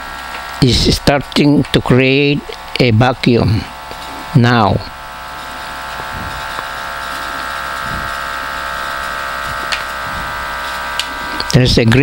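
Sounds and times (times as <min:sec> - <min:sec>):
vacuum pump whirring: 0:00.0 - 0:12.0.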